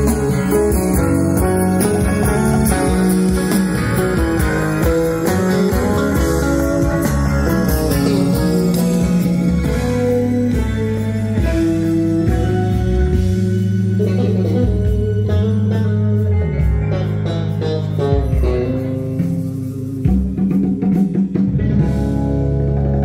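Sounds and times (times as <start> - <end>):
guitar music over loudspeakers: 0.0 - 23.0.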